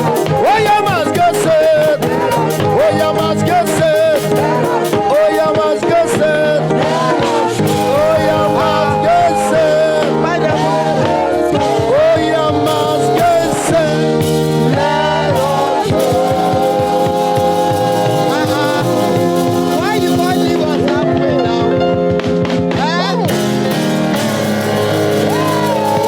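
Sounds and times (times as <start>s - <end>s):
band playing praise music: 0.0s - 26.0s
voices singing: 0.0s - 26.0s.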